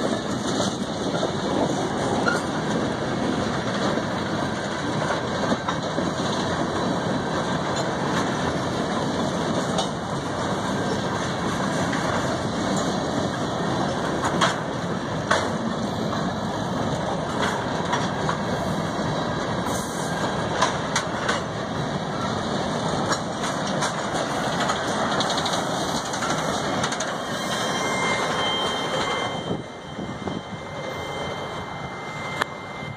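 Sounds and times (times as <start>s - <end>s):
train cars clanking: 0.0s - 32.9s
train wheels rumbling on rails: 0.0s - 32.9s.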